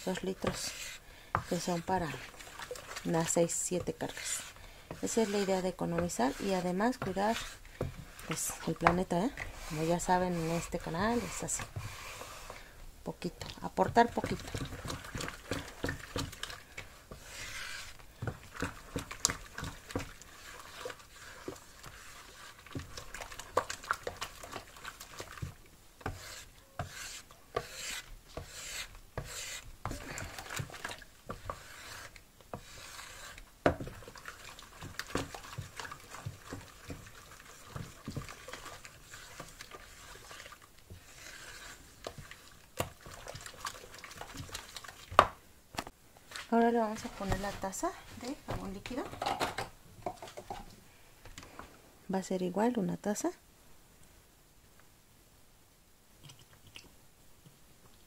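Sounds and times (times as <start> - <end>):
spatula knocking and scraping bowl: 0.0 - 12.5, 13.4 - 45.3, 46.3 - 50.7
water swishing and sloshing in bowl: 0.0 - 45.2, 46.2 - 49.0.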